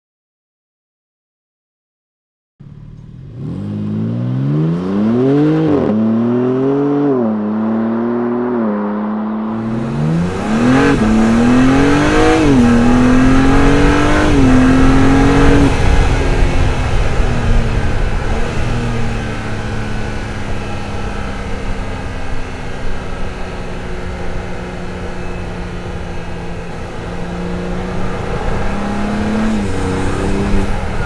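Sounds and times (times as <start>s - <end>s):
car engine accelerating hard: 2.6s - 31.0s.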